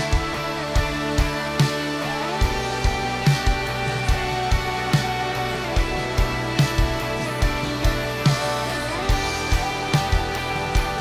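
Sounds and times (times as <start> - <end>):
sustained guitars: 0.0 - 11.0.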